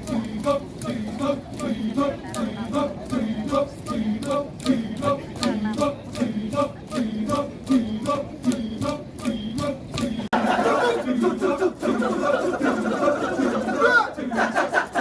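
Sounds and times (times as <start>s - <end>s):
men chanting in rhythm: 0.0s - 15.0s
sustained voices: 0.0s - 15.0s.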